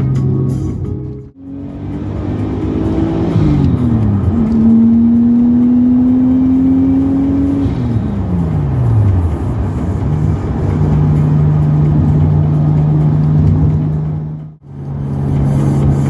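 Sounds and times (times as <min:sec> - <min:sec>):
car engine from inside: 0:01.3 - 0:16.0.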